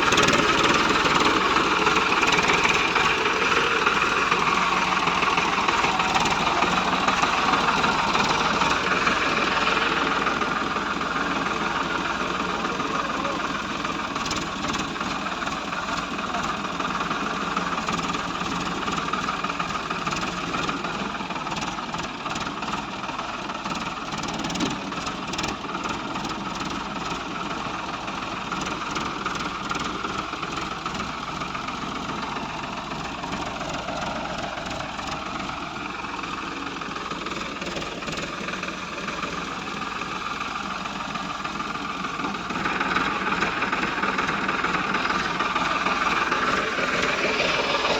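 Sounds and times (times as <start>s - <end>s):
heavy vehicle engine running: 0.0s - 47.9s.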